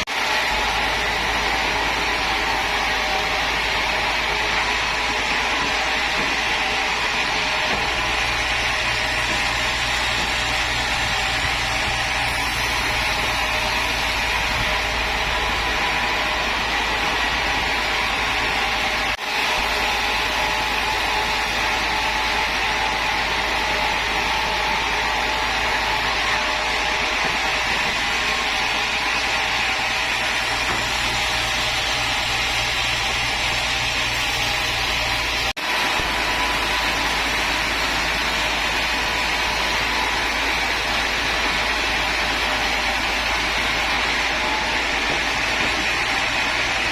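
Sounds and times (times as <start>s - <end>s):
woodworking machinery running: 0.0s - 46.9s.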